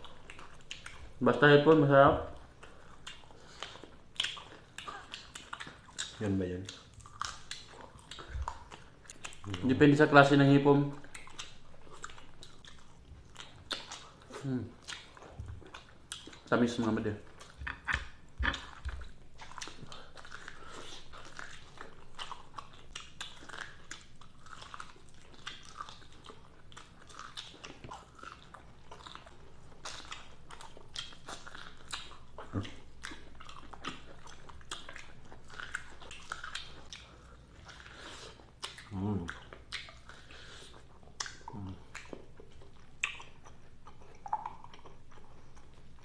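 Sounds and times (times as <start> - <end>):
chewing crispy fried shrimp: 0.0 - 46.0.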